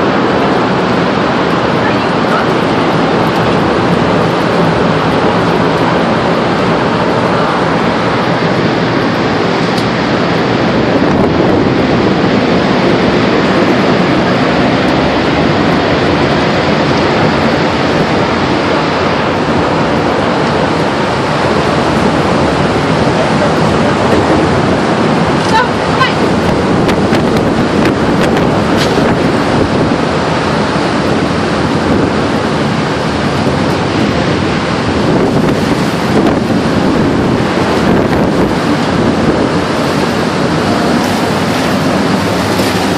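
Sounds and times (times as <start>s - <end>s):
tornado winds rushing: 0.0s - 42.9s
wind buffeting microphone: 0.0s - 42.9s.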